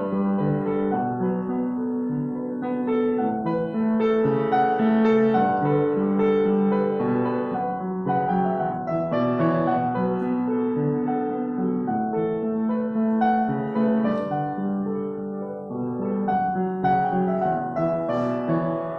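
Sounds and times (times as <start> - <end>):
solo piano piece: 0.0 - 18.9.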